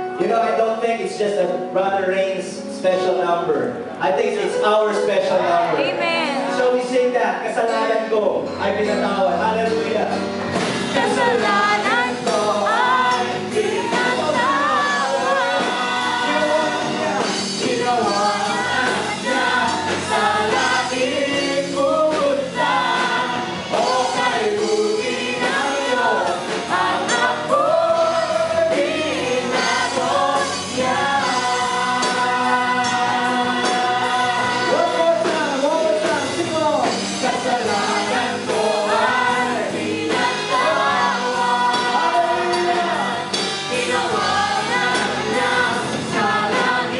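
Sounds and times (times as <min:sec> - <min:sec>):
live band accompaniment: 0:00.0 - 0:46.9
congregation singing praise song: 0:01.6 - 0:46.9.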